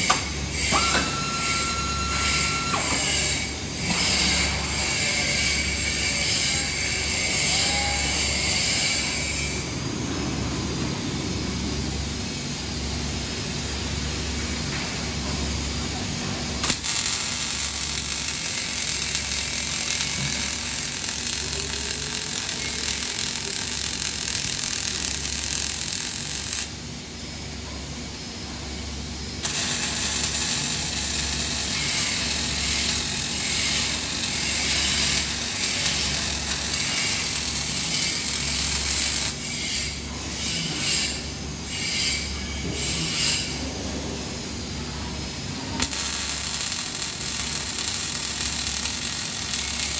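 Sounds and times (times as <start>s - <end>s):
welding arc hissing: 0.0s - 27.4s, 29.3s - 43.6s, 44.2s - 49.9s.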